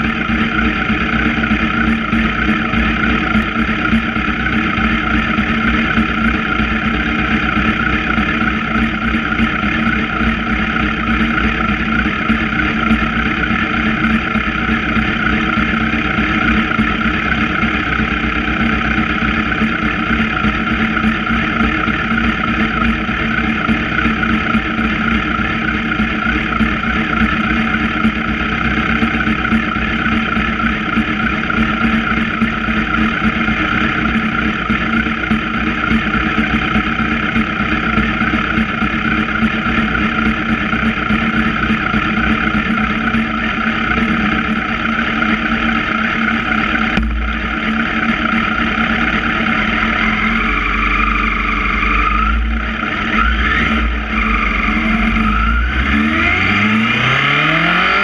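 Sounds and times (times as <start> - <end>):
motorcycle engines idling: 0.0 - 58.0.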